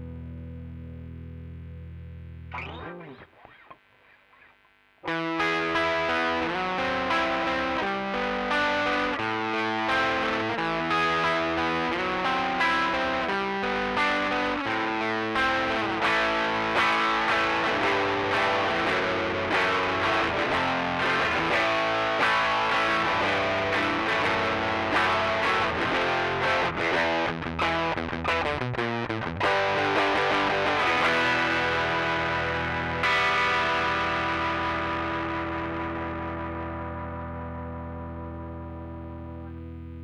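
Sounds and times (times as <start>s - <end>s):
overdriven electric guitar: 0.0s - 40.0s.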